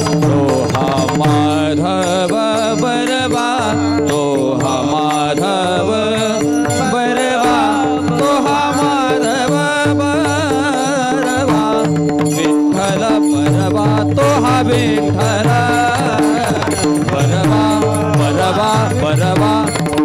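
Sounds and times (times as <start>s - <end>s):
ornamented devotional melody: 0.0s - 20.0s.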